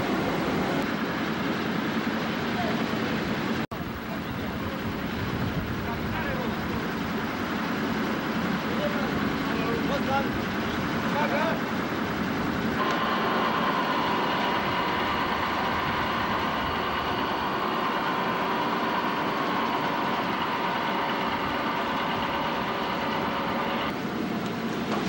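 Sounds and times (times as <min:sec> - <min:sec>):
ship deck machinery drone: 0:00.0 - 0:25.0
steady mechanical whine: 0:00.0 - 0:25.0.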